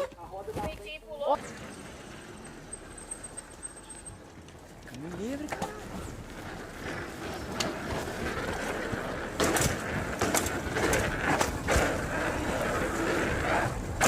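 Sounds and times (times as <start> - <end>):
bike knocking and rattling: 0.0 - 14.0
bike tyres and air rushing: 1.2 - 14.0.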